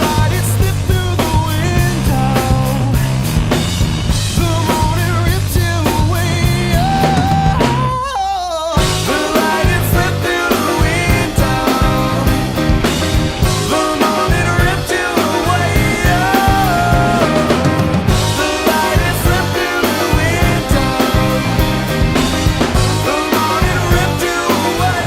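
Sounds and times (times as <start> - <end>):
rock band playing: 0.0 - 25.0
person singing: 4.4 - 25.0.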